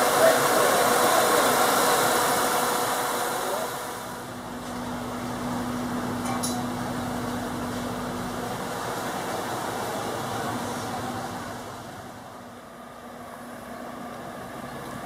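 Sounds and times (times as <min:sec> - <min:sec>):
car engine idling: 0:02.1 - 0:15.0.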